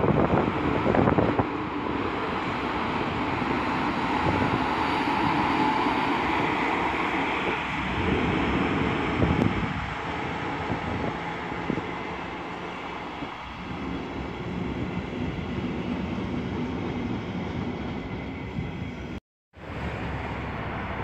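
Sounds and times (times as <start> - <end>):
electric locomotive running: 0.0 - 21.0
faint locomotive whine: 0.0 - 21.0
wind buffeting microphone: 0.0 - 21.0.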